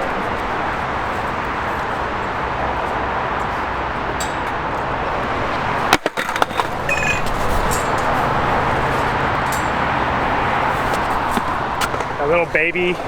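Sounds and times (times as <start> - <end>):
skateboard clacks: 0.0 - 13.0
skateboard rolling: 0.0 - 13.0.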